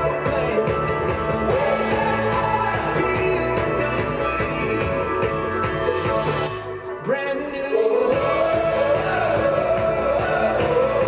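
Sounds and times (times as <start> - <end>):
song with guitar: 0.0 - 11.0.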